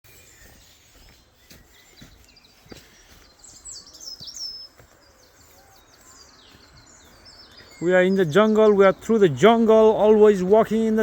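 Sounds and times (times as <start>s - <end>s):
footsteps on path: 0.0s - 11.0s
birds chirping and calling: 0.1s - 11.0s.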